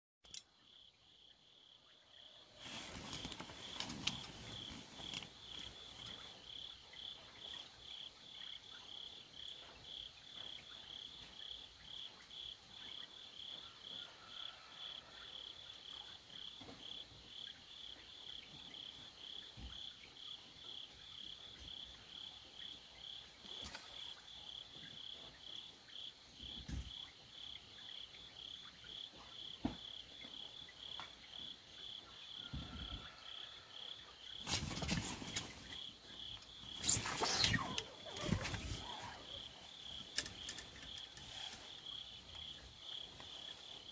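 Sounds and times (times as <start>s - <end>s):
crickets chirping: 0.3s - 43.9s.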